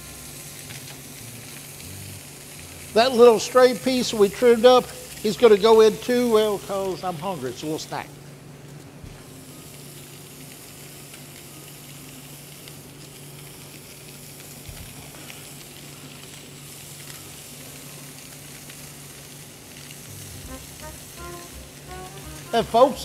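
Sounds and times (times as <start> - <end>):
fish sizzling in a skillet: 0.0 - 7.8, 9.2 - 23.0.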